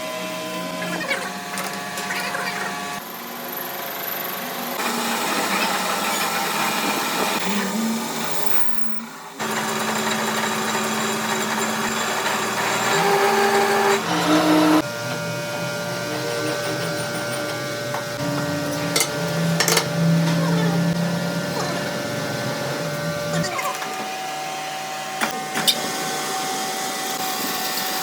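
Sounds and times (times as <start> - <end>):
workshop power tools running: 0.0 - 28.0.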